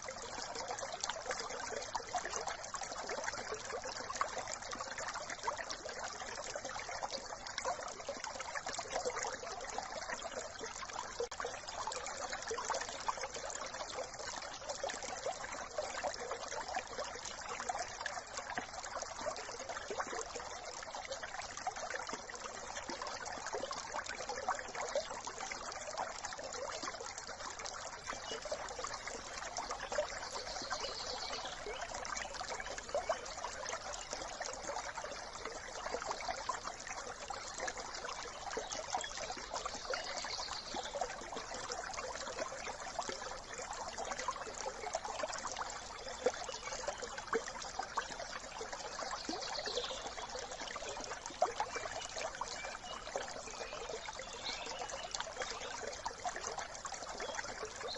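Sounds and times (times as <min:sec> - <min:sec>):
brook trickling: 0:00.0 - 0:57.9.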